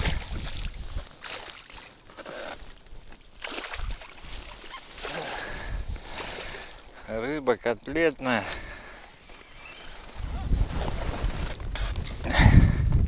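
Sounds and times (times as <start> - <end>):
water sloshing against boat: 0.0 - 12.2
wind: 0.0 - 13.0.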